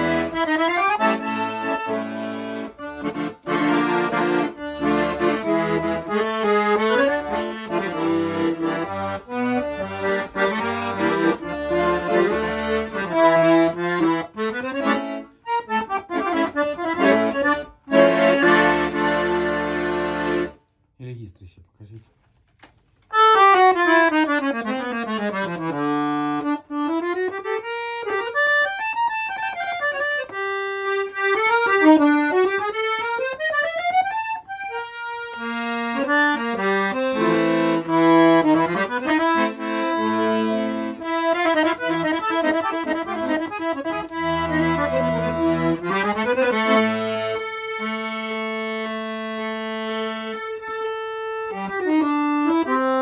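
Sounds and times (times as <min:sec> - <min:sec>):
accordion playing: 0:00.0 - 0:20.9, 0:22.7 - 0:53.0.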